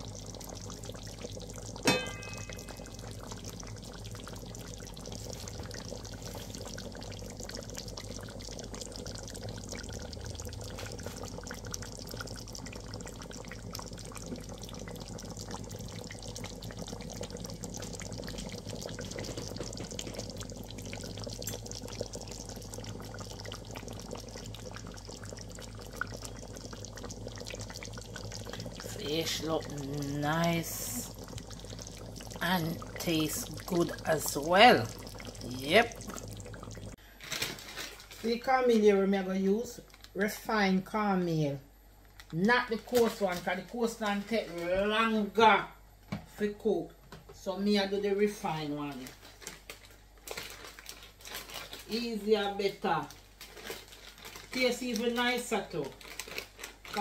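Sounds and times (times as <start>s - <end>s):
fish simmering in a pot: 0.0s - 57.0s.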